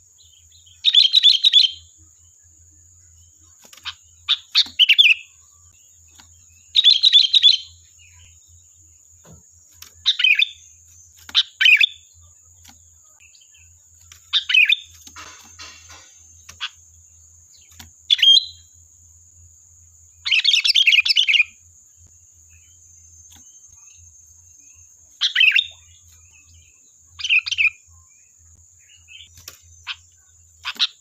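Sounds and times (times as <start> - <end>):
bulbul singing chirpy notes: 0.0 - 31.0.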